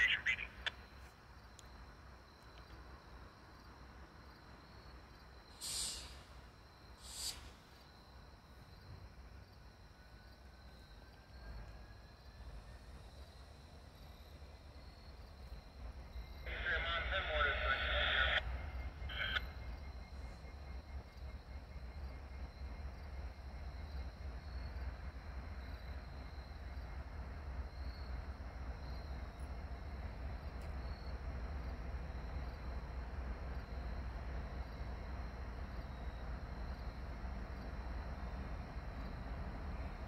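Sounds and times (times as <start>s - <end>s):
distant diesel locomotives rumbling: 0.0s - 40.0s.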